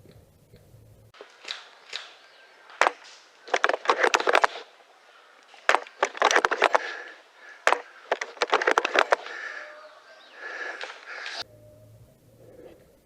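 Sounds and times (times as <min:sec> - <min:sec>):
sharp clicks and cracks: 0:00.0 - 0:09.6, 0:10.4 - 0:11.4.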